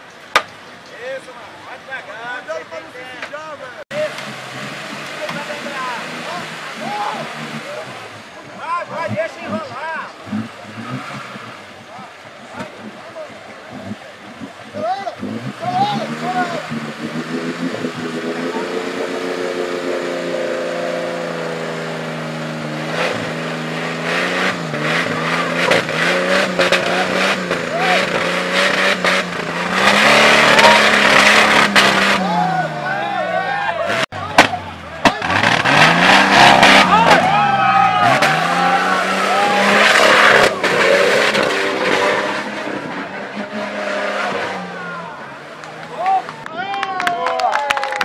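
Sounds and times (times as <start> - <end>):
engine revving high: 3.9 - 46.4.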